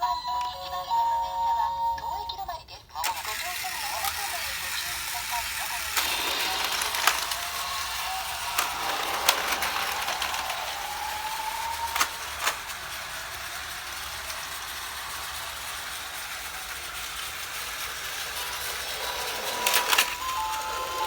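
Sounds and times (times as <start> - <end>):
sharp clicks of train on track: 3.0 - 21.0
toy train motor whirring: 3.0 - 21.0.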